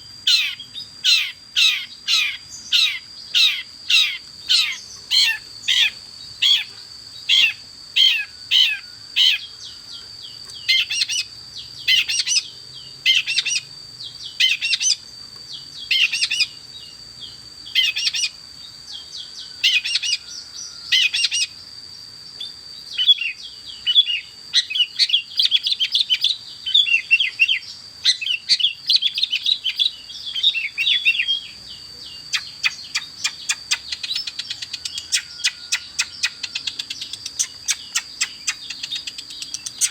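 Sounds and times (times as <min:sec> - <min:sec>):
bird singing rapid chirping phrases: 0:00.0 - 0:21.6, 0:22.7 - 0:39.9.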